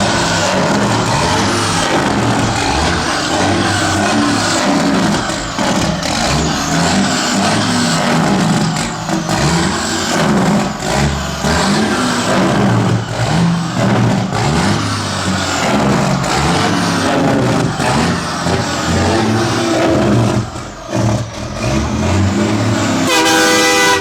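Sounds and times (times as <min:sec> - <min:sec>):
diesel truck engine: 0:00.0 - 0:24.0.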